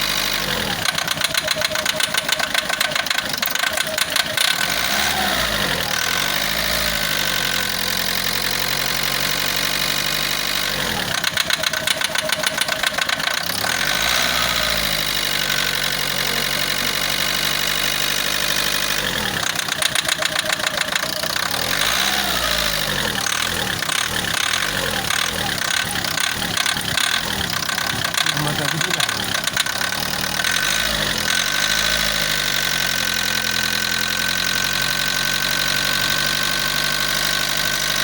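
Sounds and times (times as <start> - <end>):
diesel car engine idling and revving: 0.0 - 38.0
engine knocking clatter: 0.0 - 38.0.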